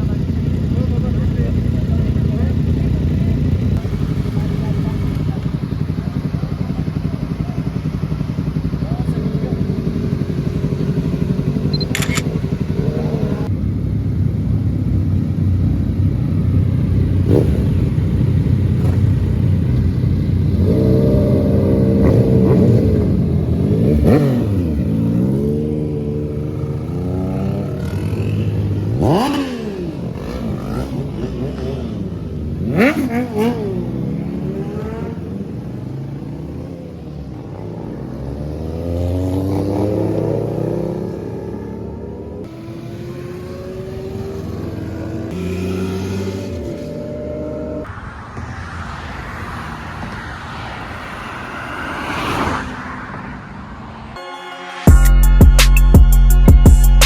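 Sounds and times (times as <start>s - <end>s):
motorcycle engines revving: 0.0s - 54.2s.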